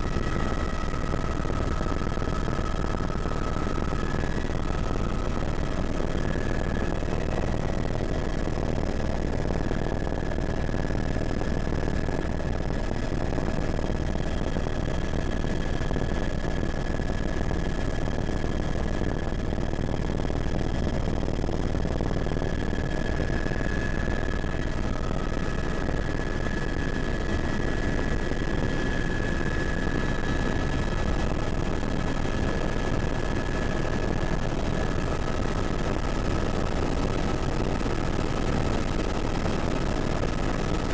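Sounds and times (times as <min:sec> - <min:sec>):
high turbine whine: 0:00.0 - 0:19.0, 0:19.7 - 0:40.9
helicopter engine and rotor: 0:00.0 - 0:40.9.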